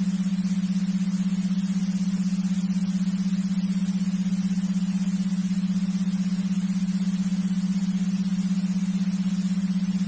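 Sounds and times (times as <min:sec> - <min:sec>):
low fluttering hum: 0:00.0 - 0:10.0.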